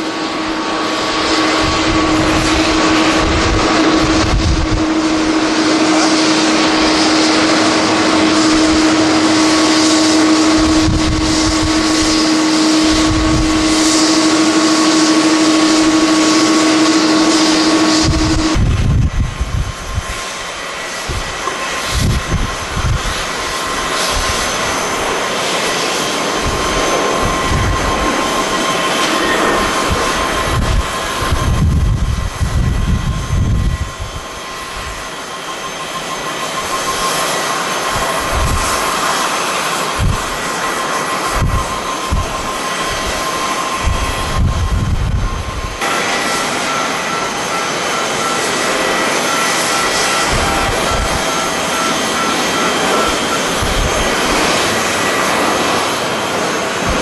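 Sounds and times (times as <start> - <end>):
jet engines roaring: 0.0 - 57.0
wind buffeting microphone: 0.0 - 57.0.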